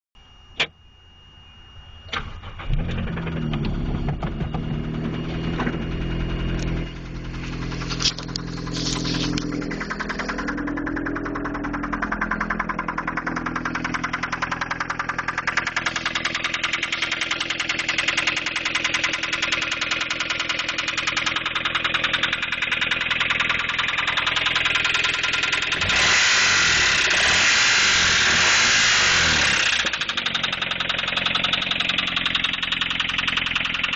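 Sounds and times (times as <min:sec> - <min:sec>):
engine ticking: 0:02.1 - 0:33.9
car engine starting and revving: 0:02.2 - 0:33.9.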